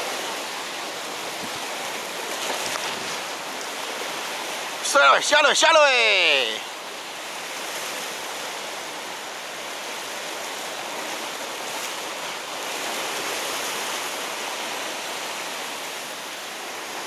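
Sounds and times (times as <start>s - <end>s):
surf washing against rocky shore: 0.0s - 17.0s.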